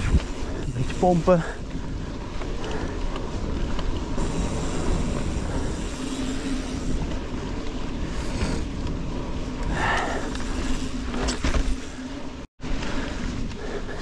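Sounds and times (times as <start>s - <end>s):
wind rushing over microphone: 0.0s - 12.0s
bike tyres on dirt: 0.0s - 14.0s.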